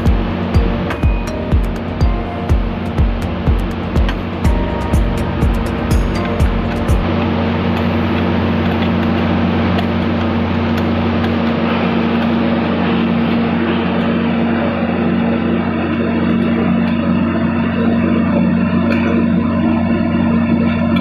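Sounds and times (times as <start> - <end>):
loud mechanical hum: 0.0 - 21.0.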